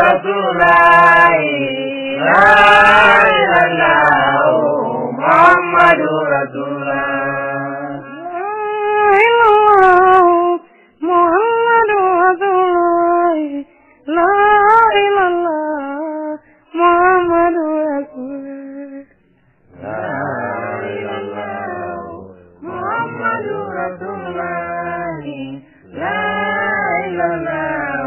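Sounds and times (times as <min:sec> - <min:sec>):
high voice singing: 0:00.0 - 0:28.0.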